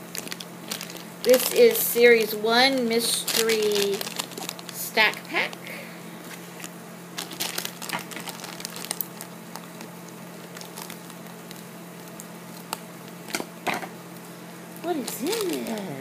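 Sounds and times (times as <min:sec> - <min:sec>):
foil packet crinkling: 0:00.0 - 0:13.6, 0:14.8 - 0:16.0.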